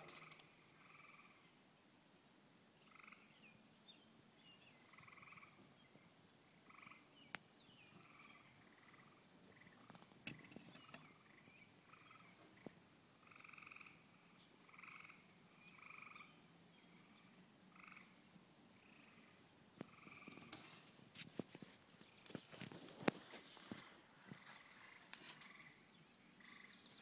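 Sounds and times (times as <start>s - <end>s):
high-pitched insect chirping: 0.0s - 21.0s, 23.2s - 27.0s
low insect trills: 0.0s - 27.0s.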